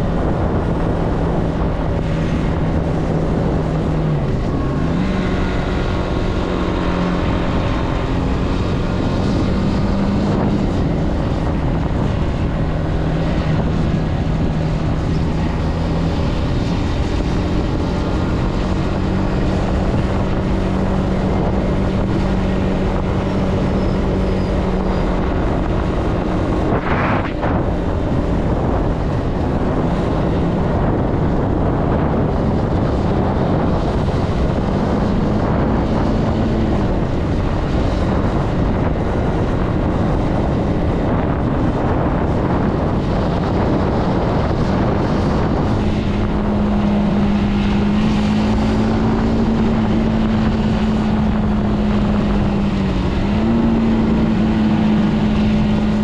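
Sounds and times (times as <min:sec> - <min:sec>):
motorcycle engine cruising: 0:00.0 - 0:56.0
wind noise on microphone: 0:00.0 - 0:56.0.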